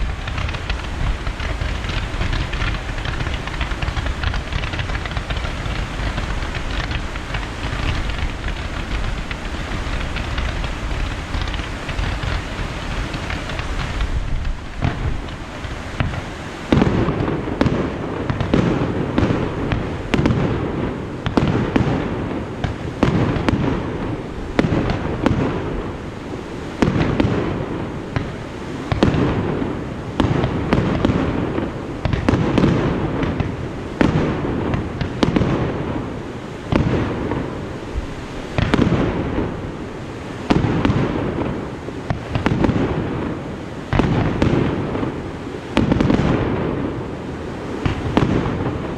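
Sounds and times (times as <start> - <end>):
fireworks bursting with rumbling echo: 0.0 - 48.9.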